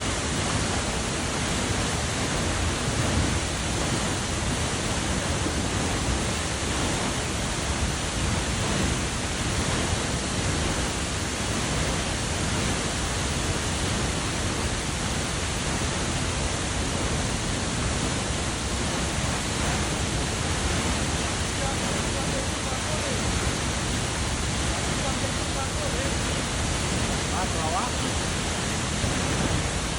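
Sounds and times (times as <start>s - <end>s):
waterfall pouring: 0.0s - 29.9s.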